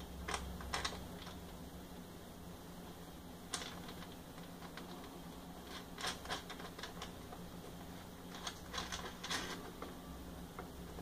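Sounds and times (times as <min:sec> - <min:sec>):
small parts clicking and tapping: 0:00.2 - 0:01.6, 0:03.5 - 0:11.0.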